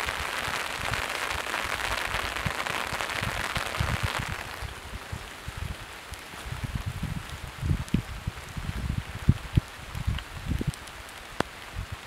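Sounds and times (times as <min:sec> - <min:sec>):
light rain pattering: 0:00.0 - 0:12.0
wind gusts on microphone: 0:00.0 - 0:12.0.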